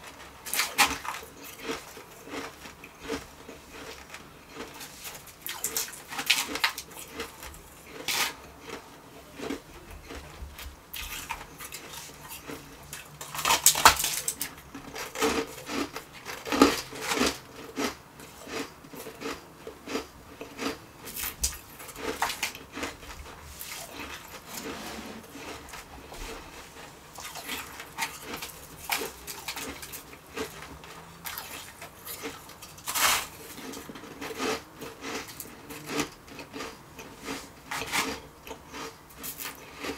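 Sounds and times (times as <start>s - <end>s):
ice being crunched and chewed: 0.0s - 39.9s.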